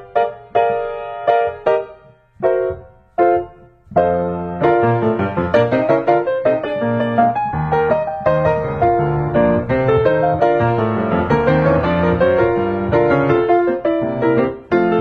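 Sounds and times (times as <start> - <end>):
solo ragtime piano: 0.0 - 15.0.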